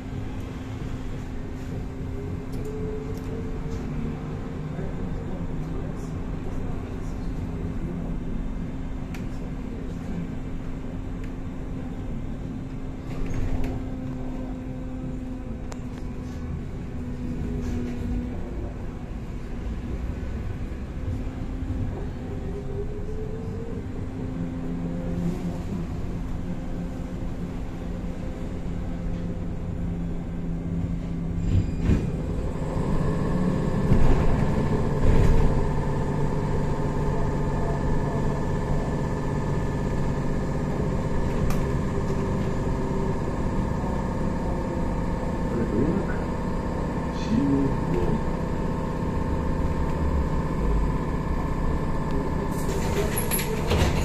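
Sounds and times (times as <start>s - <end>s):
running gear and road rumble: 0.0s - 54.0s.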